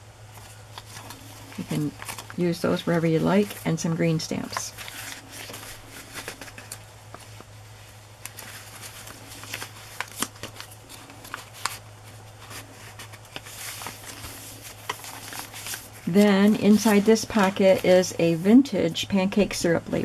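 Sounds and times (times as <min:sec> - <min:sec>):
faint low hum: 0:00.0 - 0:20.0
paper rustling and tapping: 0:00.4 - 0:07.5, 0:08.2 - 0:11.8, 0:12.4 - 0:17.9.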